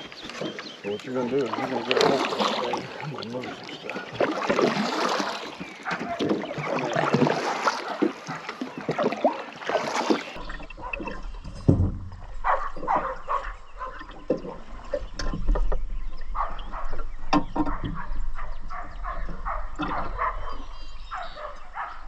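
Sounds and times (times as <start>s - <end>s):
water splashing around boat: 0.0s - 22.0s.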